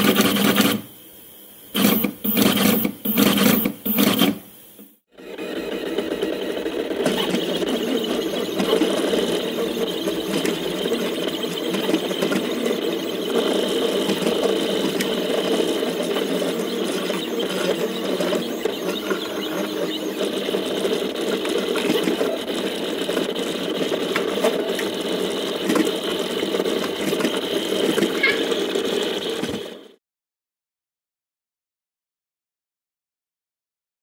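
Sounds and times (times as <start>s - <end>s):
printer motors buzzing: 0.0s - 30.0s.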